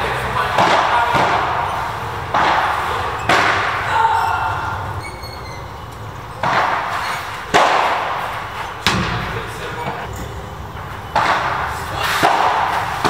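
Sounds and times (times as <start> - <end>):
racket hitting padel ball: 0.0 - 4.9, 6.2 - 13.0.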